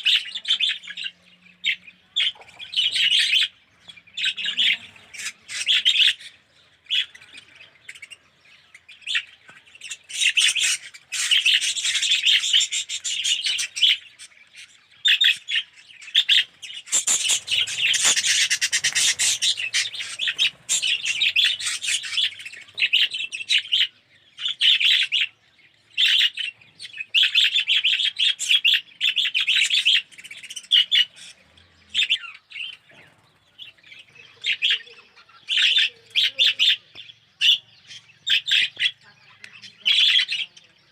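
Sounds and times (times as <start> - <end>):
budgerigars chattering and warbling: 0.0 - 40.9.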